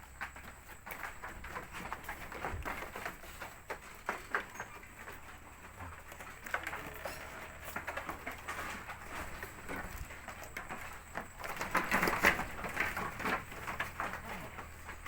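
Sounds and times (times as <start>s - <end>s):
goat hooves knocking and clicking: 0.0s - 15.0s.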